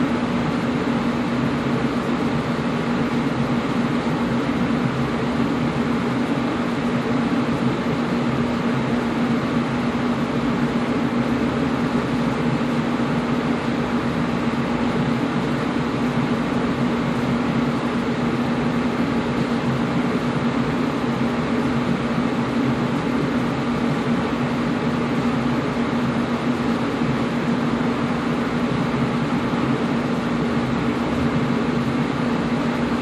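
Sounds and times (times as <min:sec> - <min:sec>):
air conditioner running: 0:00.0 - 0:33.0.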